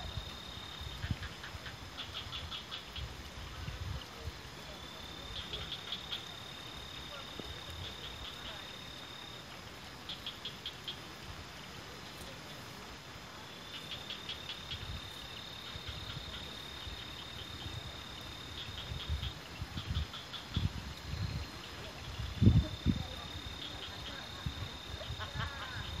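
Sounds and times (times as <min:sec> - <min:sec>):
faint even hiss: 0:00.0 - 0:26.0
insects trilling: 0:00.0 - 0:26.0
rapid insect chirping: 0:00.0 - 0:26.0.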